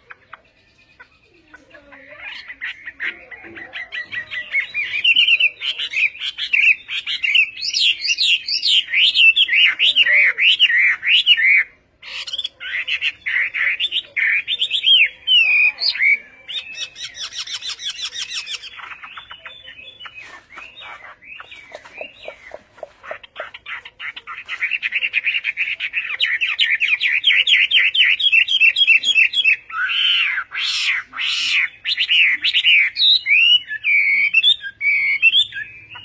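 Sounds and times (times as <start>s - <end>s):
songbird singing whistled notes: 0.0s - 36.0s.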